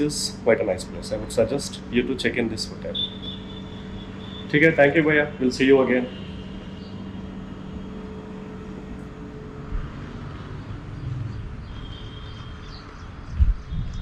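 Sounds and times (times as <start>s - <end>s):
faint hum: 0.0s - 12.5s
low mechanical rumble: 0.0s - 14.0s.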